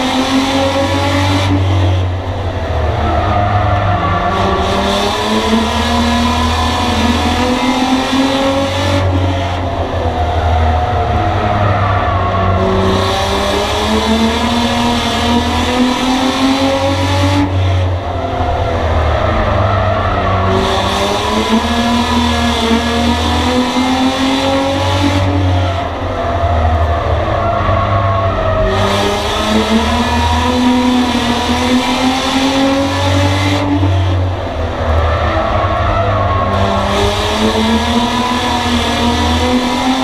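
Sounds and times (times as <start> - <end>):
race car engine: 0.0 - 40.0.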